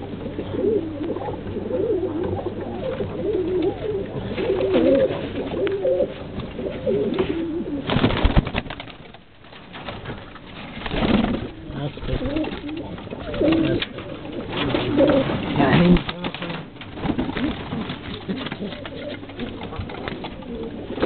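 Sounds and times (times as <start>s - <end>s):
pigeons cooing: 0.0s - 8.4s, 10.2s - 21.0s.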